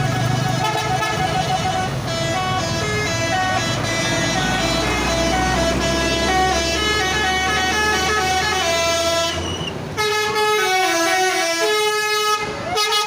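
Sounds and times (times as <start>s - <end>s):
bus engine rumble: 0.0s - 13.0s
multi-tone bus horn tune: 0.0s - 13.0s.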